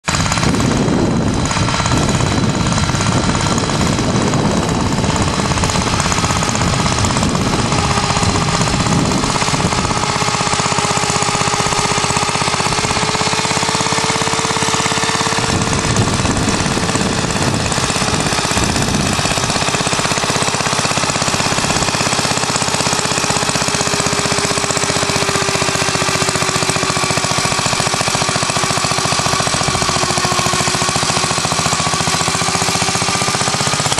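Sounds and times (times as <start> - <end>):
walking tractor engine running: 0.0 - 33.9.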